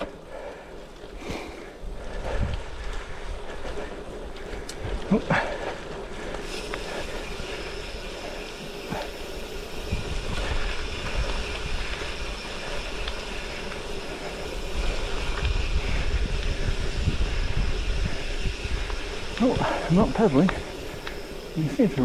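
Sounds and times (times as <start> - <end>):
bike tyres rolling on gravel: 0.0 - 22.0
wind buffeting microphone: 0.8 - 22.0.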